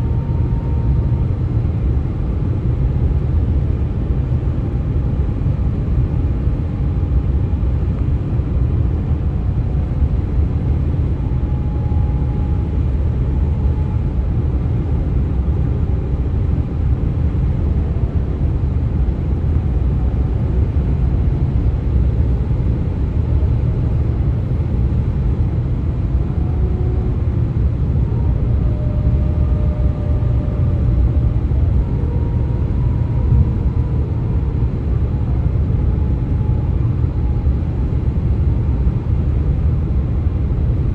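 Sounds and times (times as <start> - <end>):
highway traffic rumble: 0.0 - 40.9.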